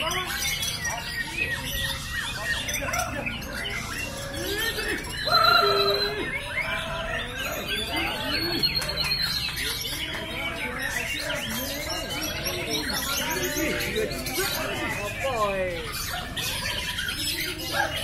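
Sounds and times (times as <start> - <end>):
caged birds singing: 0.0 - 18.0.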